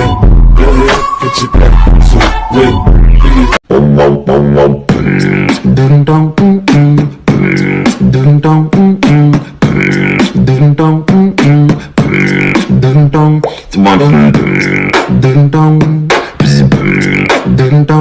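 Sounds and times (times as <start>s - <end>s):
hip hop beat: 0.0s - 18.0s
voice-like melodic loop: 0.0s - 18.0s.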